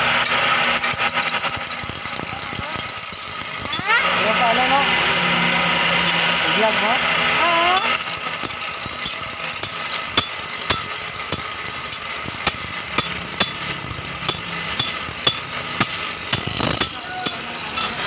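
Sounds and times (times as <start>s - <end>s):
electric grinder whining: 1.4s - 18.0s.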